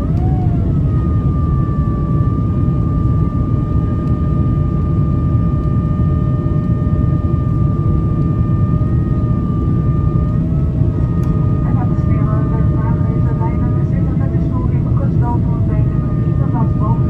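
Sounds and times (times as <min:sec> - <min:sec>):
engine fan whine: 0:00.0 - 0:17.0
jet engines and airflow rumble: 0:00.0 - 0:17.0.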